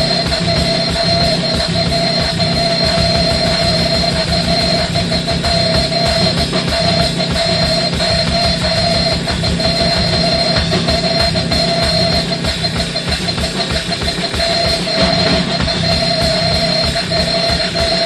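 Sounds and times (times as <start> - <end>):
droning tones: 0.0 - 18.0
fast drumming on drum kit: 0.0 - 18.0.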